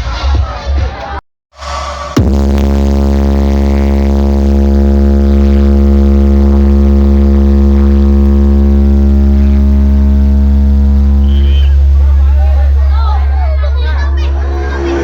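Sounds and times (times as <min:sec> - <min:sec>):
loud deep bass tone: 0:02.1 - 0:15.0.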